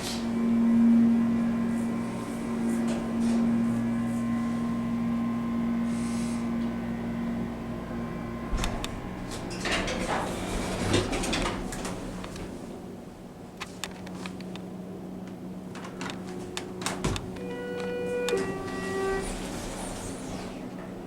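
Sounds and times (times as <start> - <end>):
elevator humming: 0.0 - 21.0.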